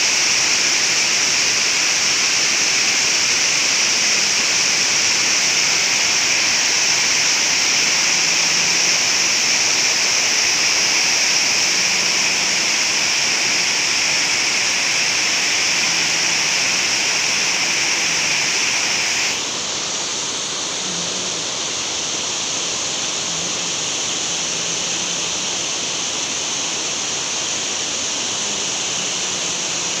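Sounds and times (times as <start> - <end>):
water rushing over weir: 0.0 - 30.0.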